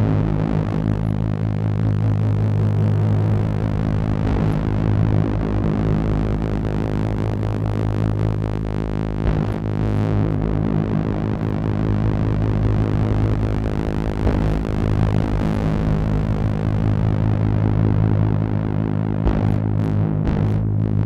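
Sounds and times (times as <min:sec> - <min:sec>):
low synthesizer drone: 0:00.0 - 0:21.0.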